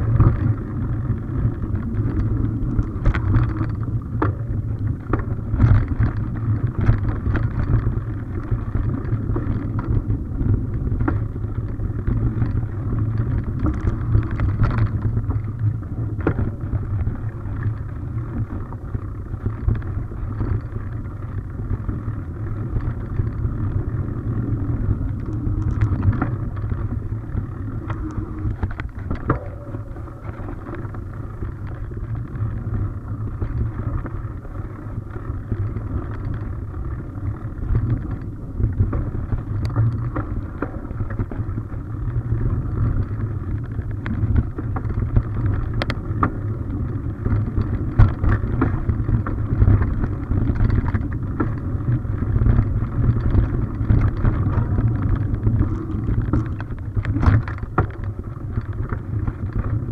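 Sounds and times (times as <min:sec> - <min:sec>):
bike knocks and rattles: 0:00.0 - 0:59.9
bike tyres rumbling on dirt: 0:00.0 - 0:59.9.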